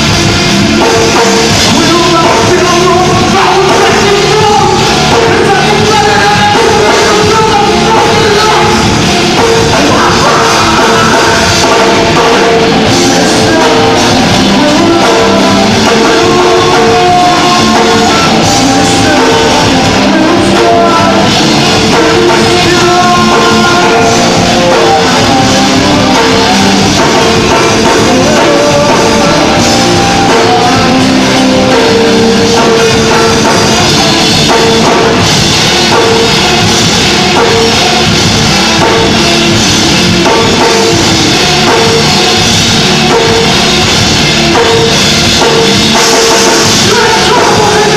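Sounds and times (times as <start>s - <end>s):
loud rock band music: 0.0s - 47.9s.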